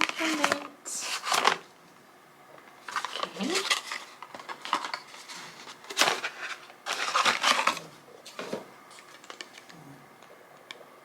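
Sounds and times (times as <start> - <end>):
packaging rustling and crinkling: 0.0 - 1.8, 2.7 - 9.8.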